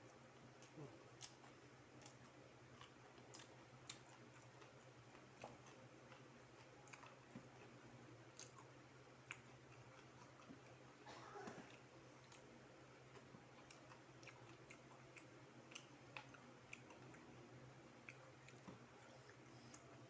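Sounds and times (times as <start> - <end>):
low steady hum: 0.0 - 20.0
person chewing crispy food: 0.2 - 11.0, 11.6 - 20.0.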